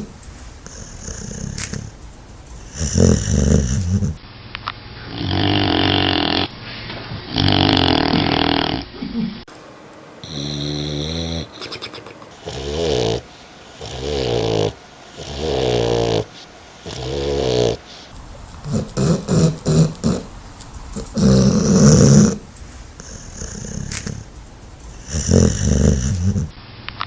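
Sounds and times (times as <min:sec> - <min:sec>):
dog snoring: 0:00.0 - 0:04.2, 0:05.0 - 0:06.5, 0:07.3 - 0:08.9, 0:10.2 - 0:26.6.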